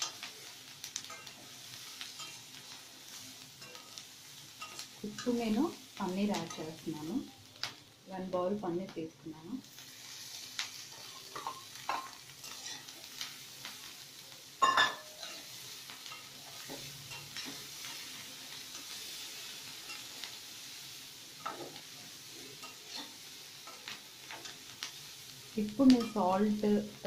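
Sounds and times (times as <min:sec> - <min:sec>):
vegetables sizzling in pan: 0:00.0 - 0:27.0.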